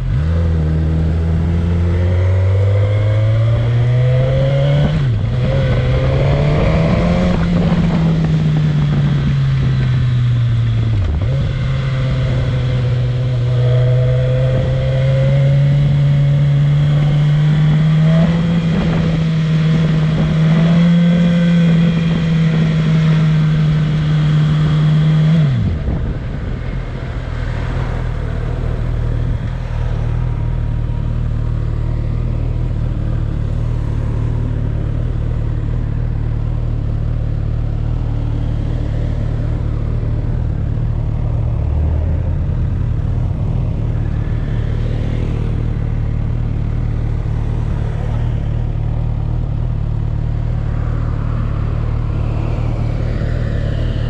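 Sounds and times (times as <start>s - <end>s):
motorcycle engine running: 3.3s - 54.0s.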